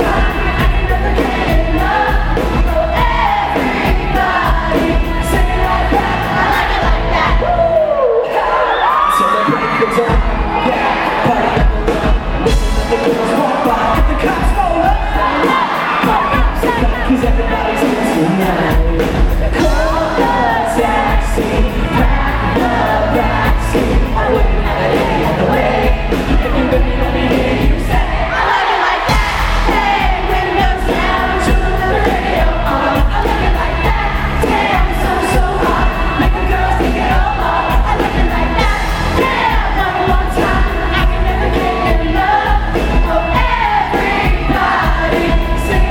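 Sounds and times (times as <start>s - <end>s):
heavy bass: 0.0s - 8.1s, 10.1s - 15.4s, 16.0s - 45.9s
drums hitting: 0.0s - 8.5s, 10.1s - 45.9s
crowd noise: 0.0s - 45.9s
lead singer singing: 0.0s - 45.9s
live pop-rock band: 0.0s - 45.9s.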